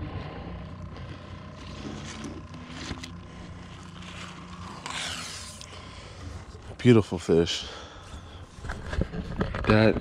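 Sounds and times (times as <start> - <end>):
boat motor idling: 0.0 - 9.9.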